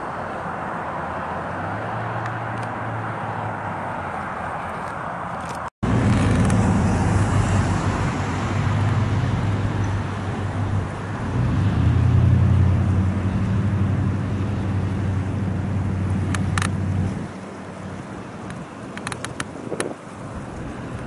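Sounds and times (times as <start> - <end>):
outdoor noise: 0.0 - 21.0
passing road traffic: 0.0 - 21.0.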